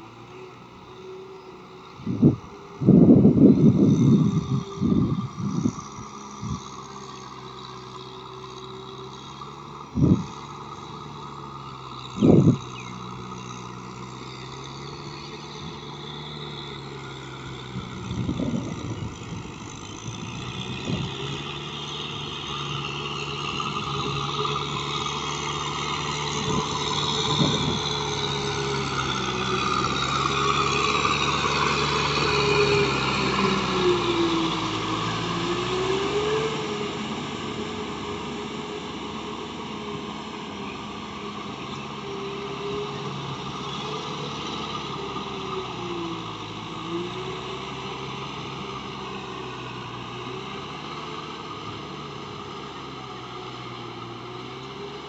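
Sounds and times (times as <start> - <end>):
wavering whine: 0.0 - 47.0
tiller churning mud: 0.0 - 55.0
tractor diesel engine running: 0.0 - 55.0.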